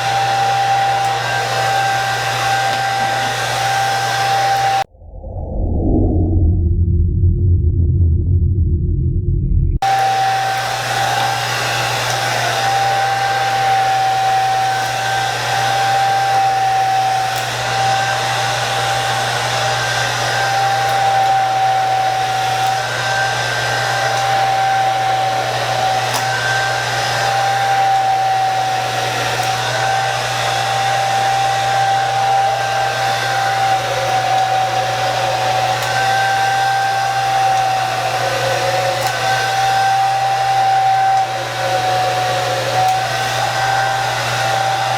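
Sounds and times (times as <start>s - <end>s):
hair dryer running: 0.0s - 4.9s, 9.8s - 44.9s.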